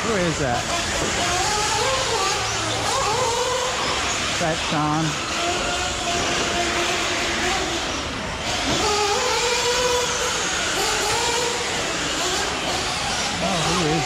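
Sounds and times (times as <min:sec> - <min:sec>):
rc car motors whining: 0:00.0 - 0:14.0
steady noisy rush: 0:00.0 - 0:14.0.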